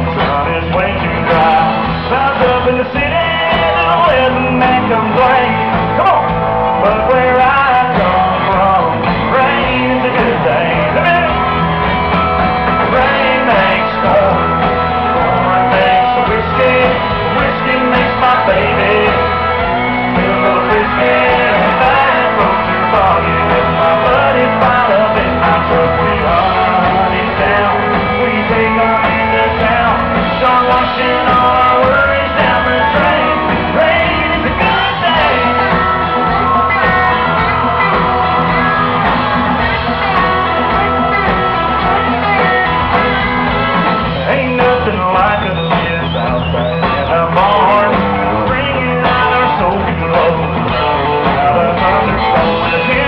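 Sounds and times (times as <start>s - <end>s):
acoustic guitar: 0.0s - 53.0s
bass: 0.0s - 53.0s
drums: 0.0s - 53.0s
man singing: 0.0s - 53.0s.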